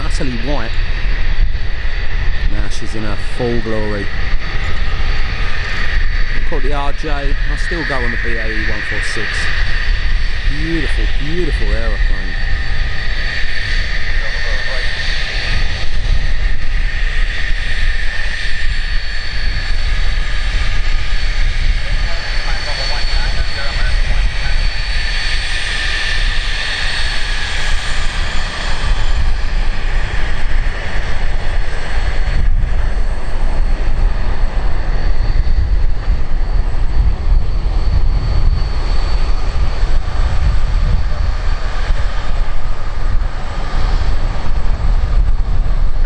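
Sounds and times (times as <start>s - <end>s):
jet engine deep rumble: 0.0s - 46.0s
jet engine whine: 0.0s - 46.0s.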